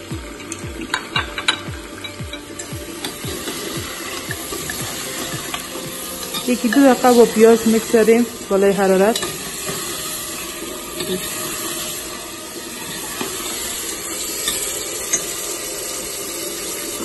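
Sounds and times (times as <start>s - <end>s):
food sizzling in hot oil: 0.0s - 17.0s
metal spoon scraping a pot: 0.4s - 15.7s.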